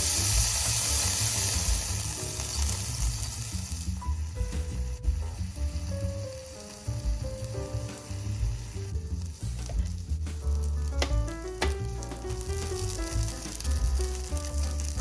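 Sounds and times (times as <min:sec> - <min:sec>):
food sizzling in a pan: 0:00.0 - 0:15.0
light background music: 0:00.0 - 0:15.0.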